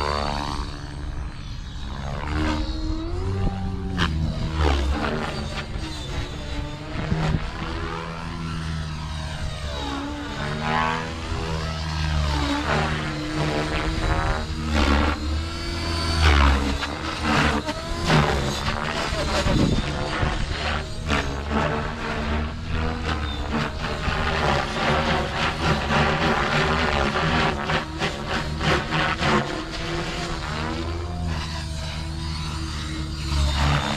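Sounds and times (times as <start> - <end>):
rc helicopter rotor whirring: 0.0 - 33.9.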